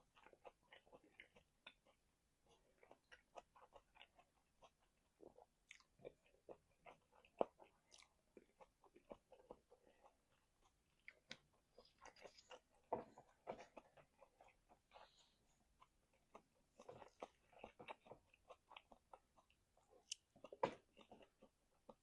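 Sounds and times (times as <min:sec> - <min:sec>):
chewing food: 0:00.0 - 0:22.0.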